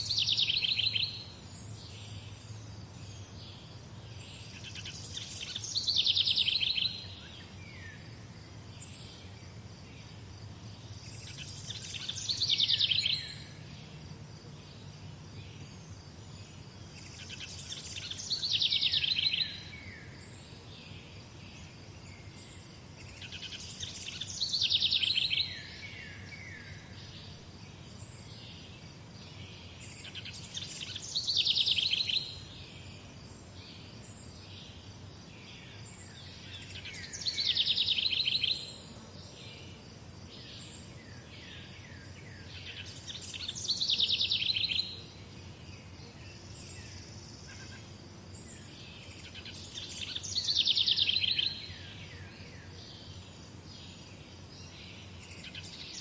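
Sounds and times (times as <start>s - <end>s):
low background noise: 0.0s - 56.0s
soft bird chirps: 0.0s - 56.0s.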